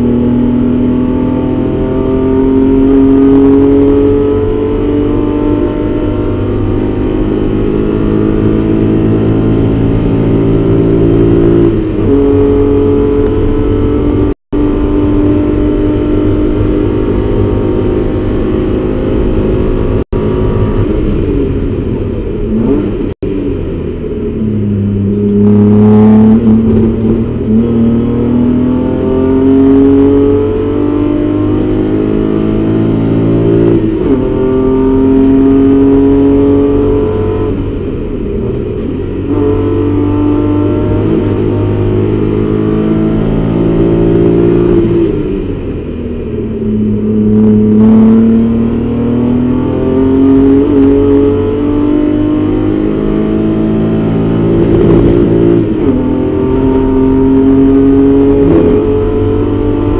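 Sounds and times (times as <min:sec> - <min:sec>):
race car engine at high revs: 0:00.0 - 0:59.9.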